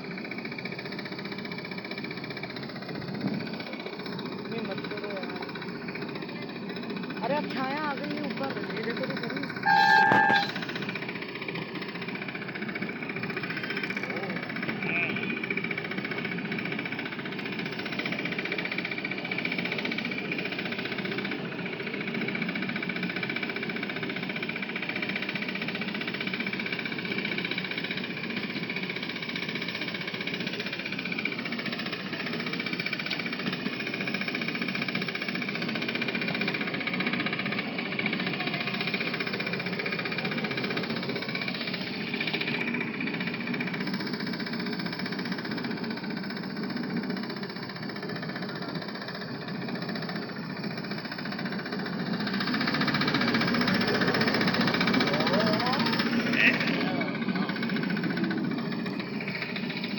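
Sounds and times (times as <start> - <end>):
miniature train rattling: 0.0 - 59.9.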